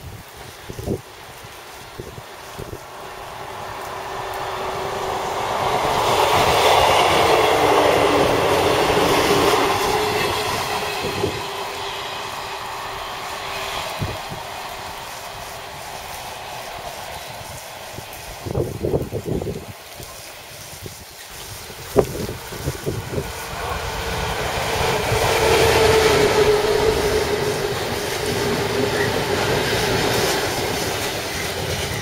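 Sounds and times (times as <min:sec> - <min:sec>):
diesel train passing: 0:00.0 - 0:32.0
wheels clicking on rails: 0:00.0 - 0:32.0.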